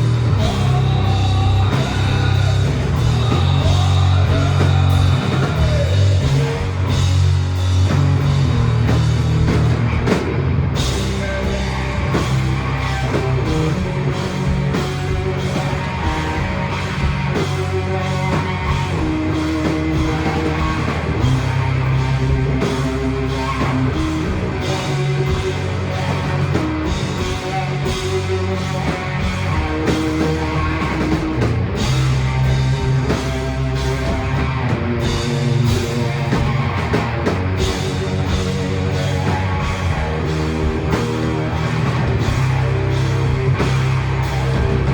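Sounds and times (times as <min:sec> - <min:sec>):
drum kit: 0:00.0 - 0:44.9
electric guitar: 0:00.0 - 0:44.9
rock band playing live: 0:00.0 - 0:44.9.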